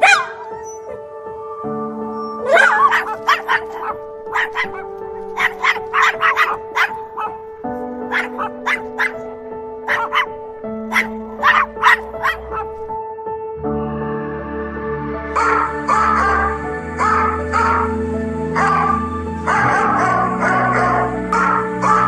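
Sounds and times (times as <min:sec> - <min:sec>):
dogs barking and yipping: 0:00.0 - 0:01.0, 0:02.2 - 0:12.9, 0:15.4 - 0:22.0
background music held chords: 0:00.0 - 0:22.0.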